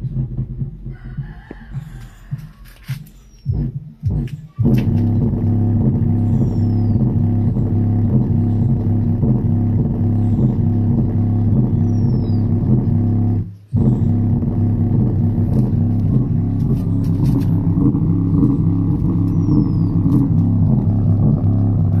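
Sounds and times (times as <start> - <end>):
loud music with deep bass: 0.0 - 22.0.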